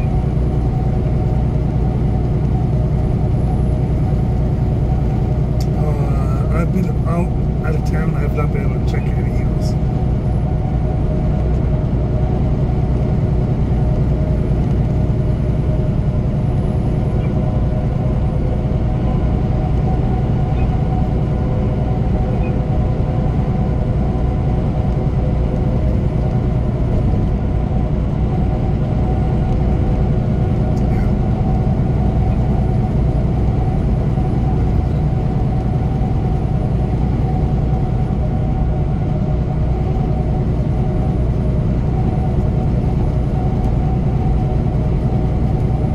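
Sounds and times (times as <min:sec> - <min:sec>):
truck engine and tyres droning: 0:00.0 - 0:45.9.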